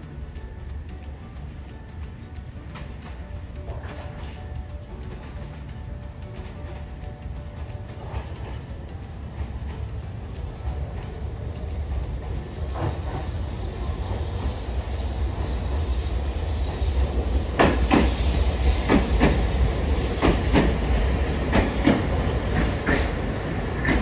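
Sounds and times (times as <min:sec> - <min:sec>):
tram passing with low rumble: 0:00.0 - 0:24.0
wheels clacking over track: 0:00.0 - 0:24.0.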